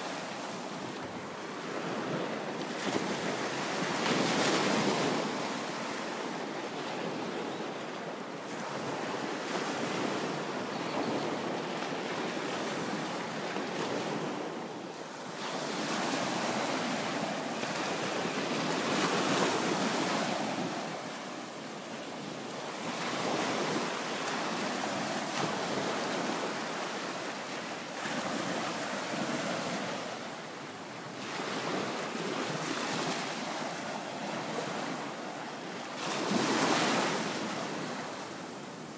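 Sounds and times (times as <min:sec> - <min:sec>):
waves washing up shore: 0:00.0 - 0:38.9.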